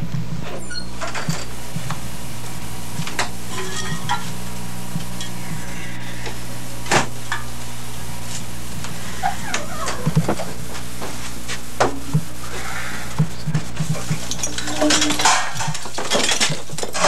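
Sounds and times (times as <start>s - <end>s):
amplifier hum and hiss: 0.0s - 17.0s.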